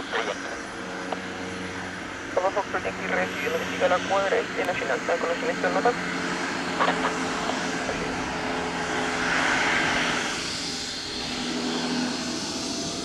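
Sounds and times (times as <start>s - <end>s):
helicopter engines and rotor: 0.0s - 13.0s.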